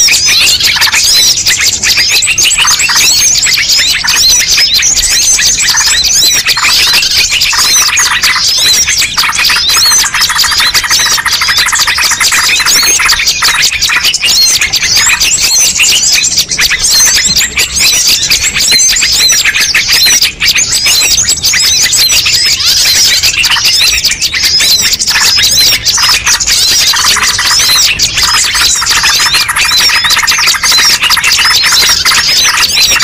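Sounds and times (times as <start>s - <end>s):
many small birds chirping: 0.0s - 33.0s.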